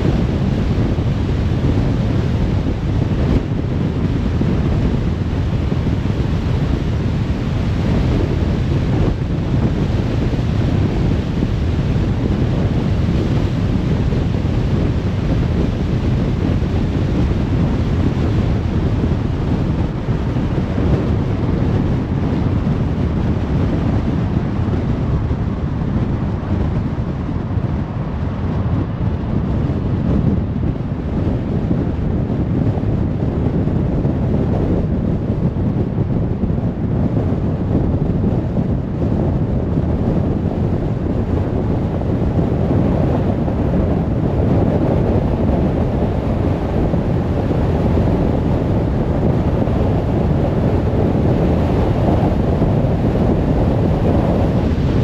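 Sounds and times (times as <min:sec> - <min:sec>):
car tyre and wind rumble: 0:00.0 - 0:55.0.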